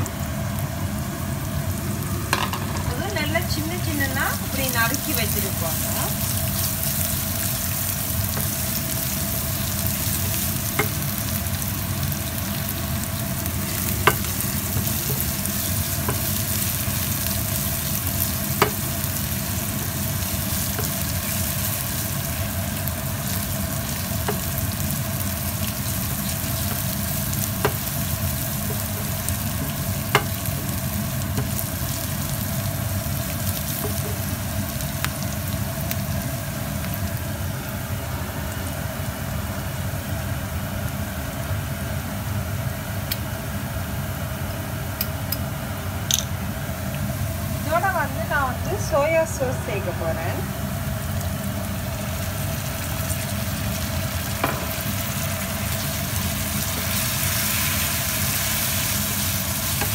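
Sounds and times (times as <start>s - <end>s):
onion sizzling in oil: 0.0s - 59.9s.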